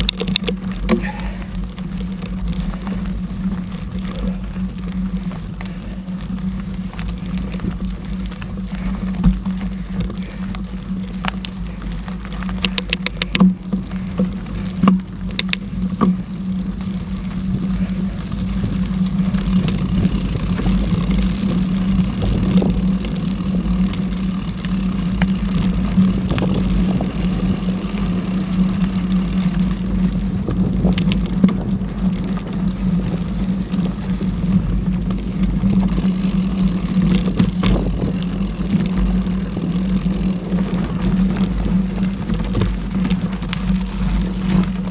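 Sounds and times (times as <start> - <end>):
bike knocks and rattles: 0.0 - 44.9
bike tyres rumbling on trail: 0.0 - 44.9
constant hum: 0.0 - 44.9
wind on microphone: 0.0 - 44.9.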